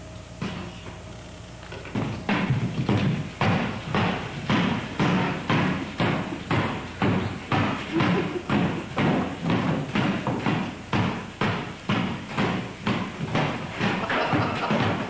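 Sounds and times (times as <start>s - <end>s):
heavy thumps: 1.8s - 15.0s.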